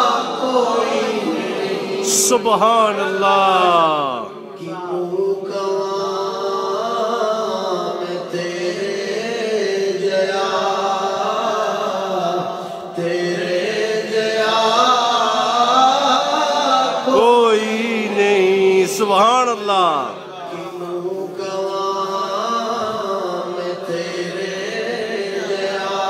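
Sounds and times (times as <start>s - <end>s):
man singing devotional song: 2.0s - 26.0s.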